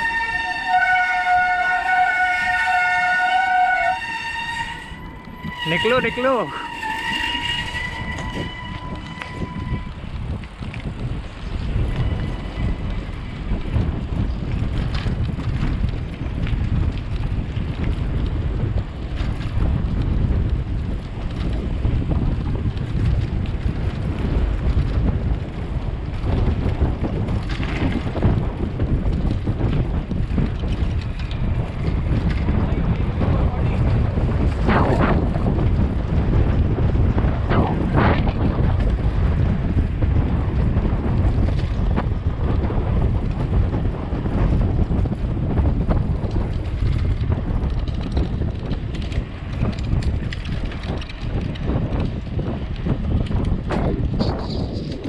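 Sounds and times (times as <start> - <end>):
wind buffeting microphone: 0.0 - 55.0
bicycle clicks and rattles: 6.2 - 37.5, 38.1 - 55.0.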